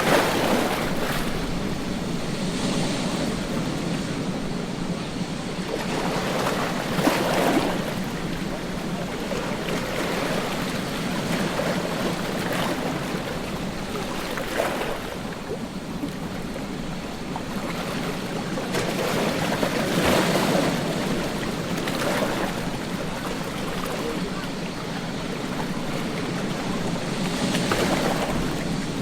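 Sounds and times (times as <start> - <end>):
ocean surf breaking: 0.0 - 29.0.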